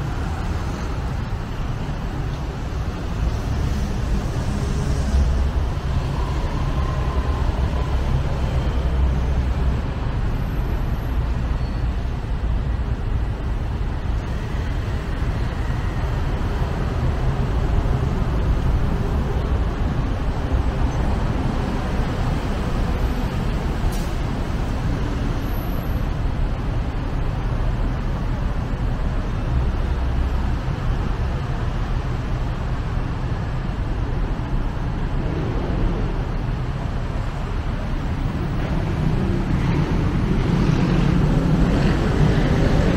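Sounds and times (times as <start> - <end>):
city road traffic rumble: 0.0 - 42.9.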